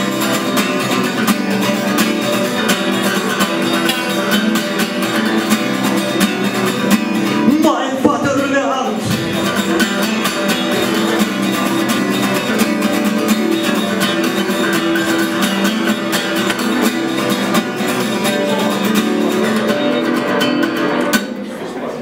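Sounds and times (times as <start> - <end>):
acoustic guitar strummed fast: 0.0 - 22.0.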